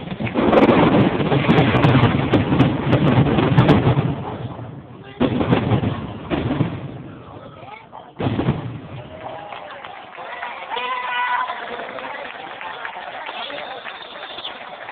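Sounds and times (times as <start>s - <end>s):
fireworks bangs and crackling: 0.0s - 14.9s.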